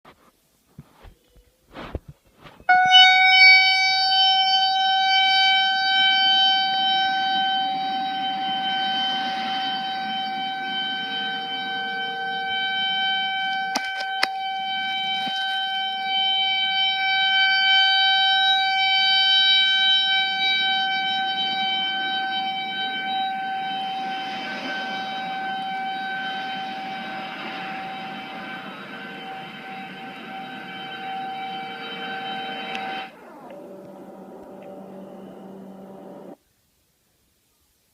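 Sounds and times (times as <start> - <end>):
tornado warning siren: 2.7 - 36.4.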